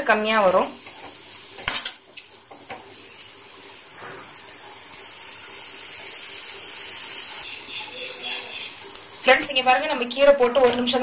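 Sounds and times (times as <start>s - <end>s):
leaves sizzling in a pan: 0.4s - 10.1s.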